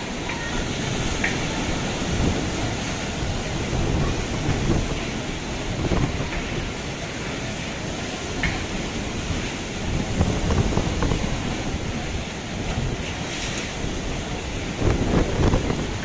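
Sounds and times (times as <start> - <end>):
strong wind: 0.0 - 16.0
waves breaking against seawall: 0.0 - 16.0.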